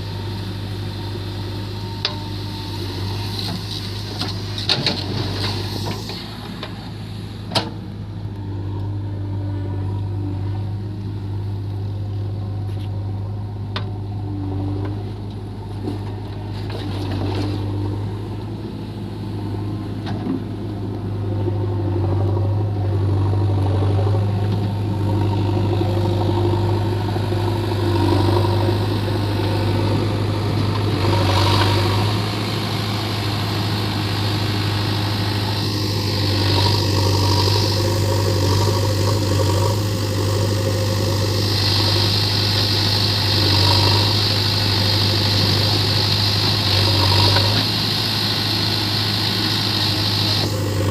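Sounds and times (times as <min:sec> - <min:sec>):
diesel engines droning: 0:00.0 - 0:50.9.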